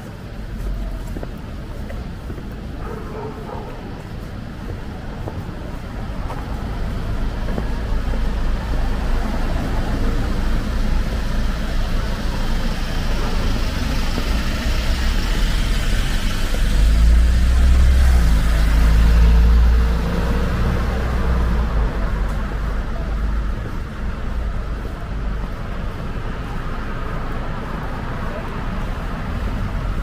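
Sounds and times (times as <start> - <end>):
low engine of passing vehicle: 0.0 - 30.0
vehicles driving past: 0.0 - 30.0.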